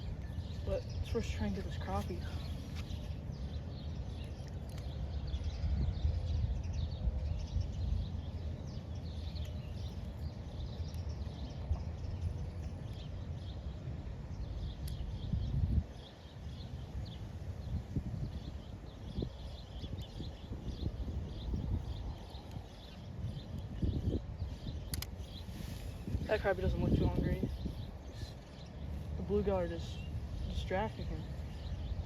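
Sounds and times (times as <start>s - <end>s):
small birds chirping: 0.0s - 32.0s
wind rumble on microphone: 0.0s - 32.0s.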